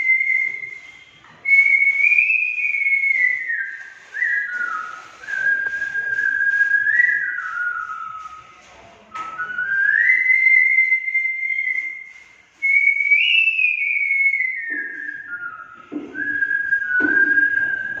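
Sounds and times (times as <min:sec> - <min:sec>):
man whistling a melody: 0:00.0 - 0:08.4, 0:09.2 - 0:18.0.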